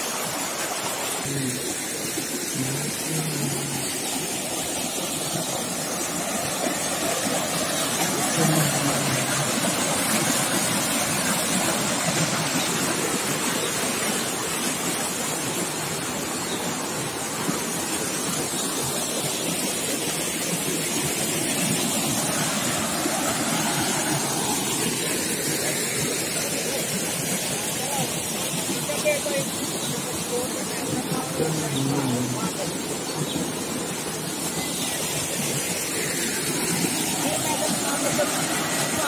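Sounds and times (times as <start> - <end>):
stream cascading over rocks: 0.0 - 39.0.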